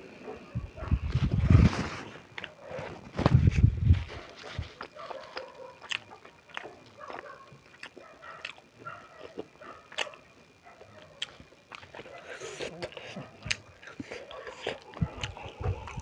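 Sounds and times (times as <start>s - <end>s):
wet chewing smacks: 0.8s - 16.0s.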